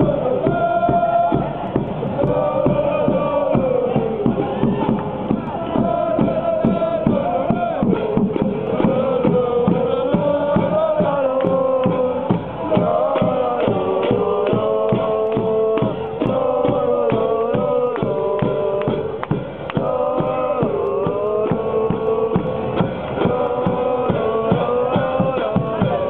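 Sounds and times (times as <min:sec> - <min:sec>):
bass drum beating: 0:00.0 - 0:26.0
men singing in unison: 0:00.0 - 0:26.0.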